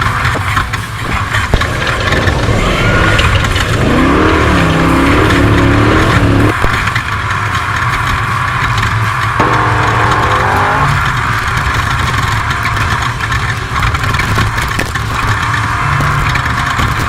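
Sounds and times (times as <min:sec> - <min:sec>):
road and wind noise: 0:00.0 - 0:17.0
truck engine revving: 0:00.0 - 0:17.0.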